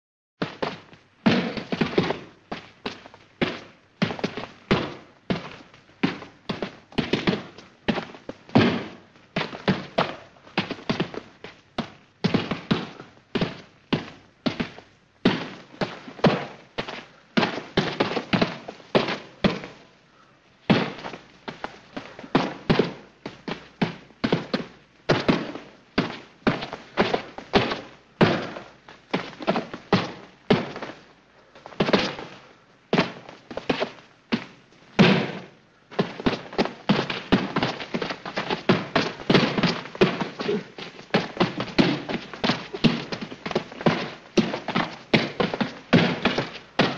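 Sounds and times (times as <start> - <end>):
boxing glove punches thudding: 0.4 - 19.8, 20.7 - 46.9.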